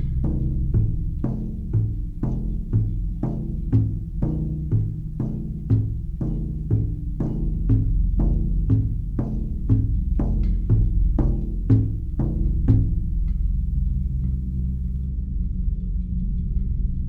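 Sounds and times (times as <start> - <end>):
low-pitched drum beat: 0.0 - 15.0.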